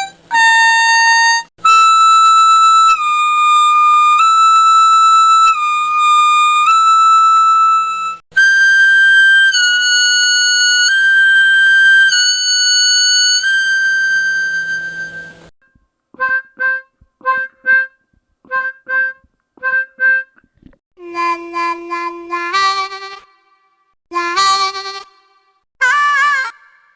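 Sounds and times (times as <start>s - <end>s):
harmonica playing: 0.0s - 15.4s, 16.2s - 20.4s, 21.0s - 23.3s, 24.1s - 26.9s.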